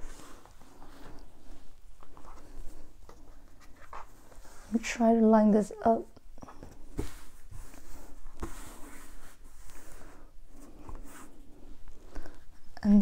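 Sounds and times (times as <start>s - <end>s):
fabric rustling and sliding: 0.0s - 5.0s, 6.6s - 12.7s.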